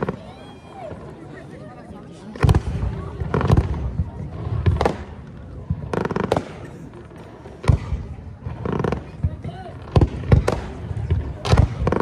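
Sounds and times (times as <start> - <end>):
fireworks bursting with sharp bangs: 0.0 - 1.2, 2.2 - 12.0.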